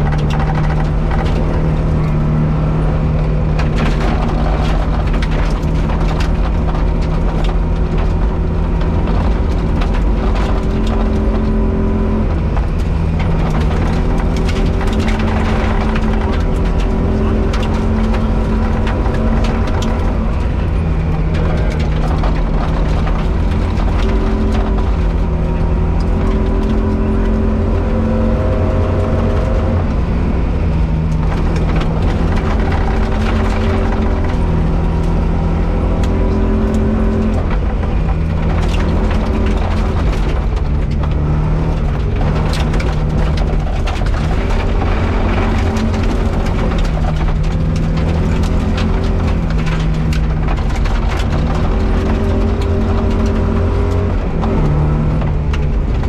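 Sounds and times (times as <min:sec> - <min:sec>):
rally car engine revving: 0:00.0 - 0:56.0
gravel hitting car underbody: 0:03.3 - 0:30.0, 0:30.7 - 0:56.0.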